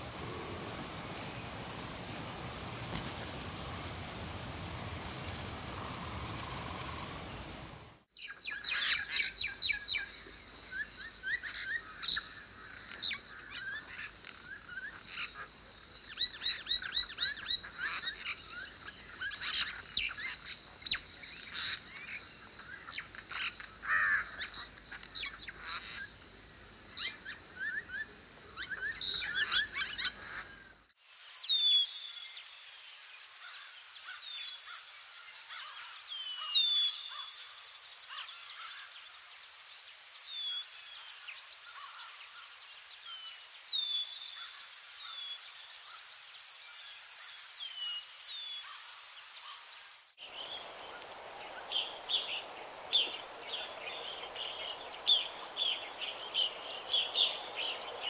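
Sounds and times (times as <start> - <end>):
birds chirping and trilling: 0.0 - 26.2, 26.9 - 58.0.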